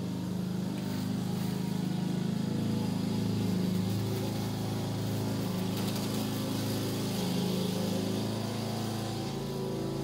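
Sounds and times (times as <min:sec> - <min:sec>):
motor droning: 0:00.0 - 0:10.0.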